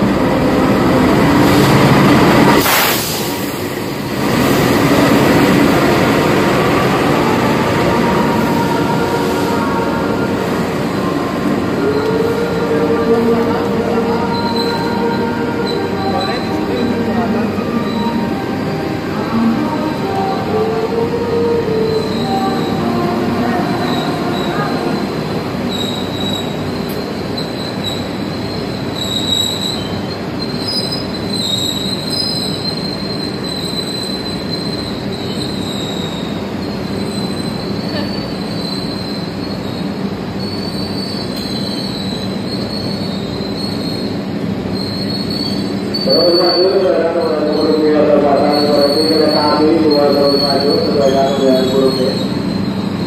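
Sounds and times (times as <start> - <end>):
train wheels rumbling on rails: 0.0 - 53.0
high wavering wheel squeal: 6.6 - 53.0.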